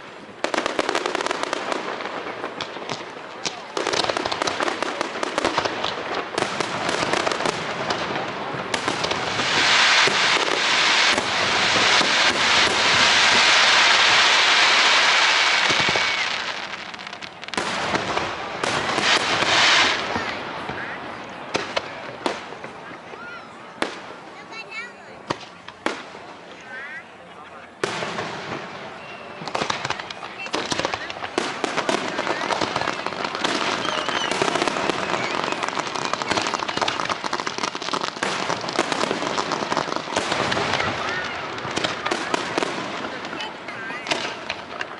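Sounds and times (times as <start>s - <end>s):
fireworks bangs: 0.0s - 44.9s
fireworks crackling: 0.0s - 44.9s.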